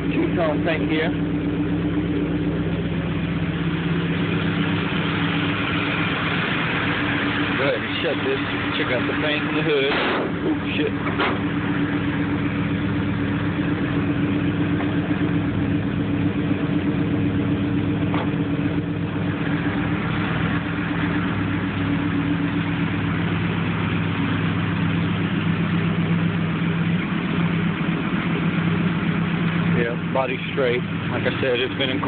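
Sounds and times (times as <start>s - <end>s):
large truck engine idling: 0.0s - 32.0s.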